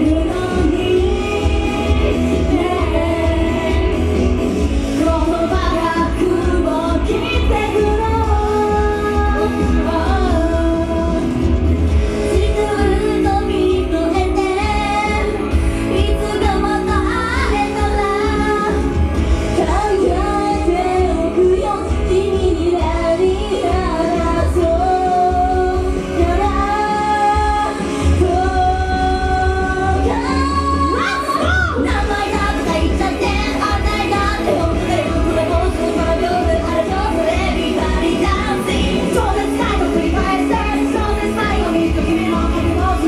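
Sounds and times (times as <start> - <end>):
band accompaniment with heavy bass: 0.0 - 43.0
women singing pop song: 0.0 - 43.0.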